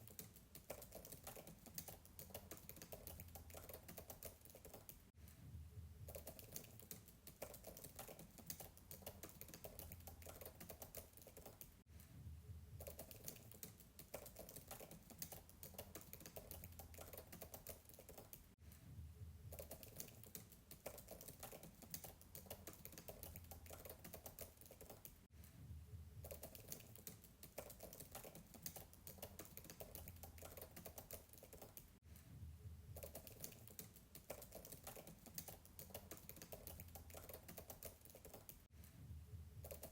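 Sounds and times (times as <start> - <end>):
distant keyboard typing: 0.0 - 5.0, 6.1 - 11.6, 12.8 - 18.3, 19.5 - 25.0, 26.2 - 31.8, 33.0 - 38.5.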